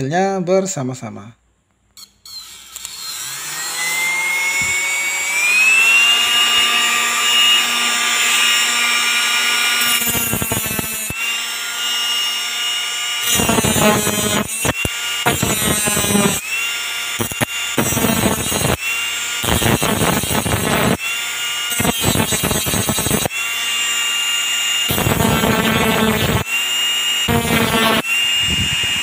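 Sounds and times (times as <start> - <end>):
motor whine: 2.3 - 29.0
disc grinding steel: 2.5 - 26.5, 27.2 - 28.0.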